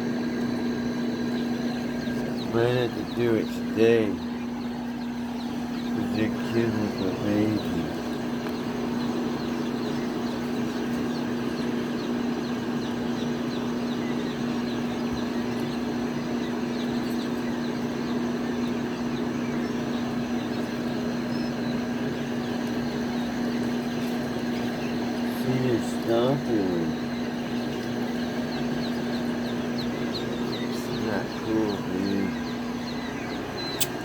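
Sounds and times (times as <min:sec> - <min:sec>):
low electrical hum: 0:00.0 - 0:34.0
young birds peeping: 0:00.0 - 0:34.0.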